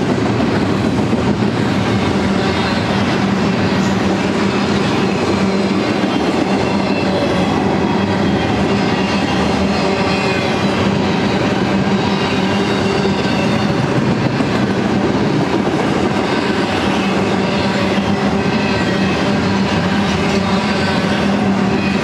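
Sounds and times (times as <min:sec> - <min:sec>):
train wheels rumbling and rattling: 0:00.0 - 0:22.0.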